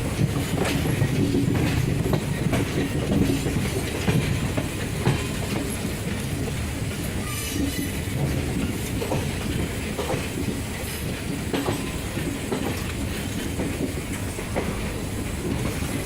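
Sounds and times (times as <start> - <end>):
train coaches rumbling past: 0.0 - 16.0
wheels clacking over rail joints: 0.0 - 16.0.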